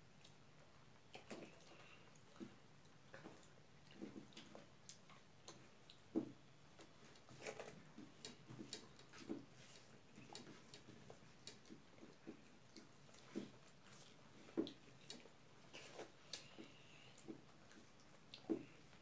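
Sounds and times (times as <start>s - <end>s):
chewing and lip smacks: 0.1s - 6.1s, 6.7s - 19.0s.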